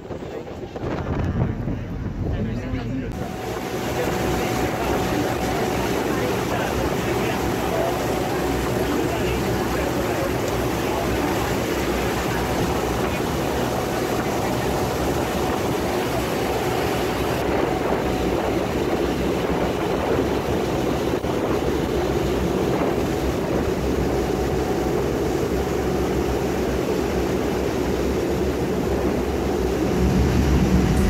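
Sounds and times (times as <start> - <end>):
boat engine running: 0.0 - 31.0
rushing wake water: 0.0 - 31.0.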